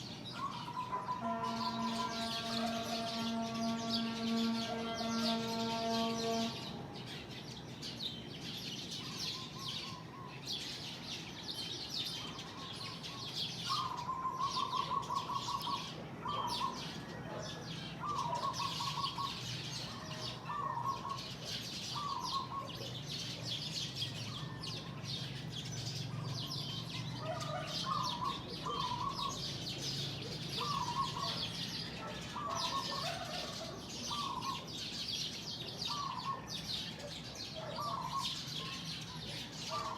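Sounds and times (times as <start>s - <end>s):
flock of birds chirping: 0.0s - 39.9s
bird trilled call: 0.3s - 6.7s, 9.0s - 10.5s, 12.2s - 23.4s, 24.1s - 36.7s, 37.6s - 39.9s.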